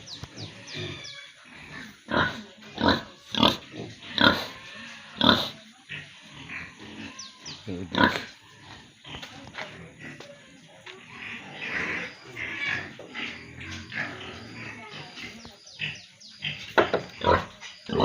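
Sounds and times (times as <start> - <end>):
pigs grunting and squealing: 0.0 - 18.0.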